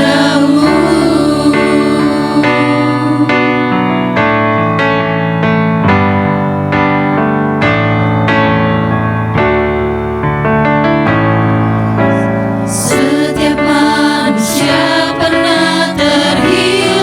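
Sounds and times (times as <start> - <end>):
keyboard playing slow chords: 0.0 - 17.0.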